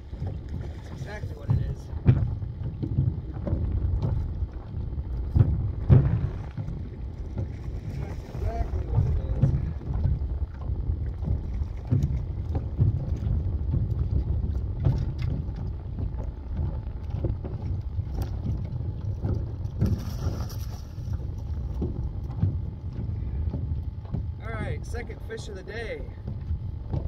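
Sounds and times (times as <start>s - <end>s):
water lapping against boat hull: 0.0s - 27.0s
wind buffeting microphone: 0.0s - 27.0s.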